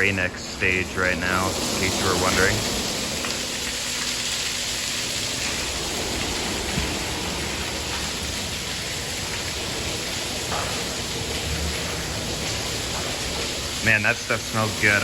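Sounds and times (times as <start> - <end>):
water spray hissing onto car: 0.0 - 15.0.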